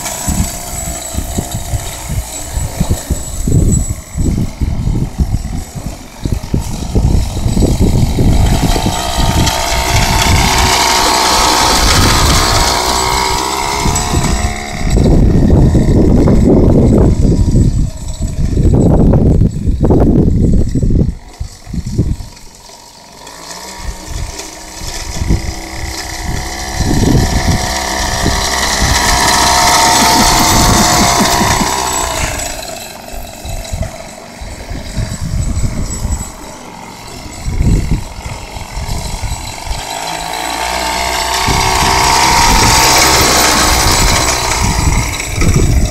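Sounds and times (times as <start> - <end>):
small tractor engine running: 0.0 - 45.9.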